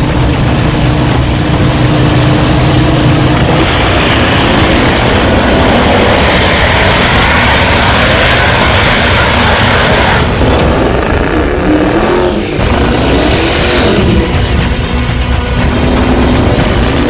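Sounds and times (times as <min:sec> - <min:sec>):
diesel truck engines roaring: 0:00.0 - 0:17.0
turbocharger whistles: 0:00.0 - 0:17.0.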